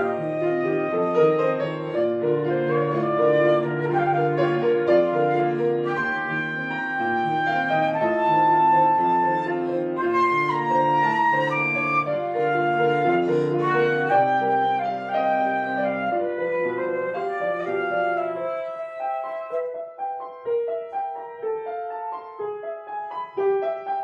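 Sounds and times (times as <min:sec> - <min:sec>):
piano accompaniment: 0:00.0 - 0:24.0
woodwind melody: 0:00.0 - 0:24.0.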